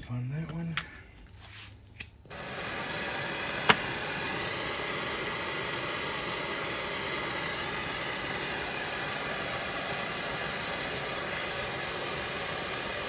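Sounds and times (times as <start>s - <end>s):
heat gun blowing: 2.3s - 13.0s.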